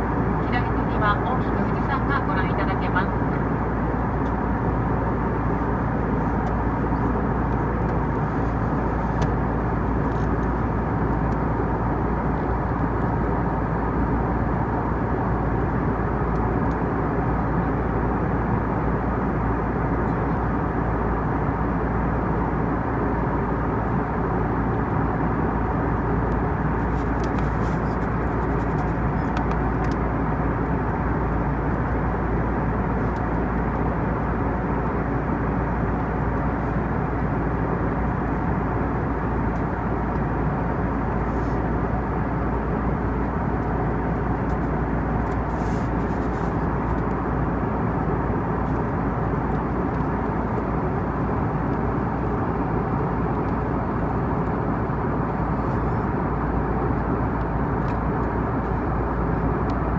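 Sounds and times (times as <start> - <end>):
airplane cabin airflow and drone: 0.0 - 59.9.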